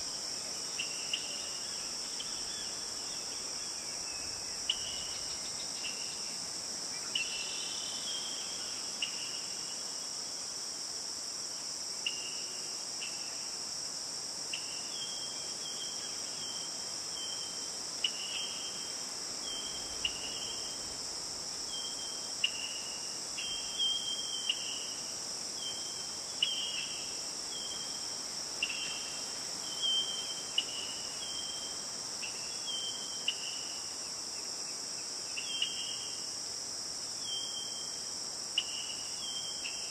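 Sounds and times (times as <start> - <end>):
crickets and insects chorus: 0.0 - 39.9.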